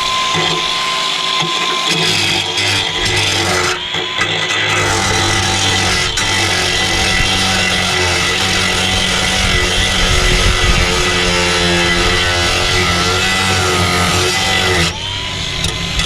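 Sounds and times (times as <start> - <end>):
power tool running: 0.0 - 16.0.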